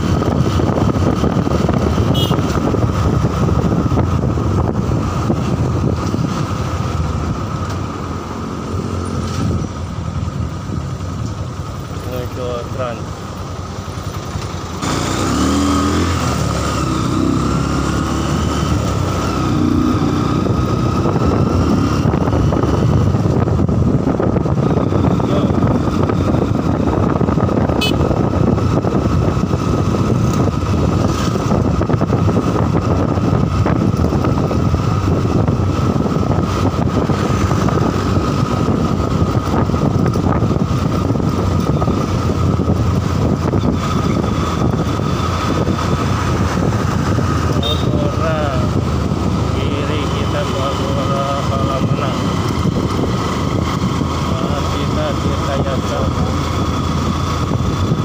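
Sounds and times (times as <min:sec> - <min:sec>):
motorcycle engine: 0:00.0 - 0:58.0
road noise: 0:00.0 - 0:58.0.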